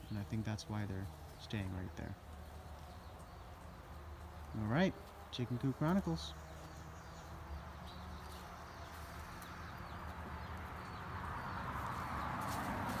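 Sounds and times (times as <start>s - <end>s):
low outdoor hum: 0.0s - 13.0s.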